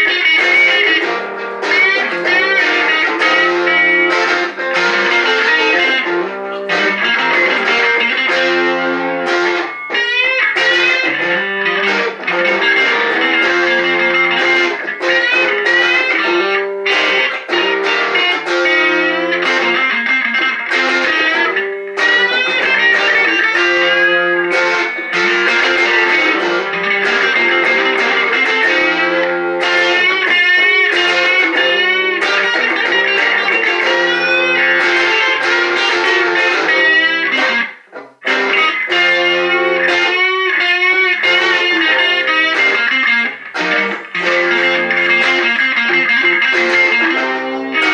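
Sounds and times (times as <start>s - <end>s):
electric guitar playing: 0.0s - 47.9s.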